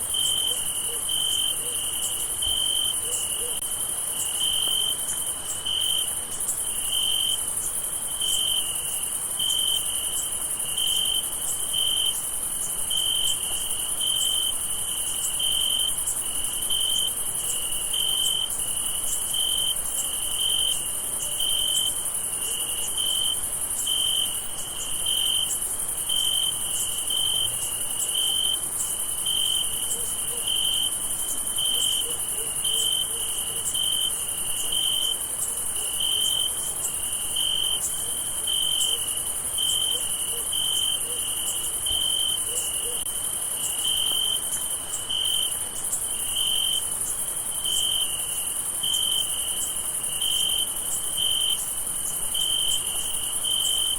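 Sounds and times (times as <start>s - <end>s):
cricket chirping: 0.0s - 53.9s.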